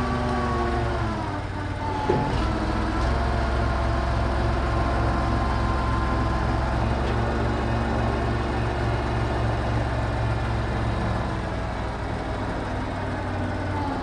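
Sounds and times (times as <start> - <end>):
crane engine rumbling under load: 0.0 - 14.0.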